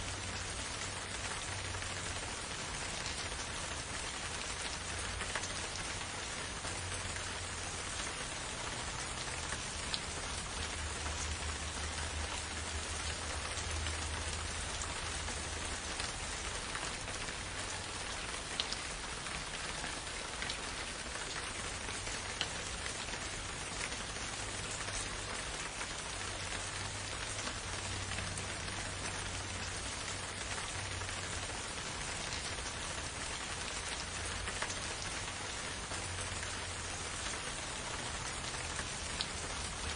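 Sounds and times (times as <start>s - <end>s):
individual raindrops: 0.0s - 39.9s
steady rain: 0.0s - 39.9s.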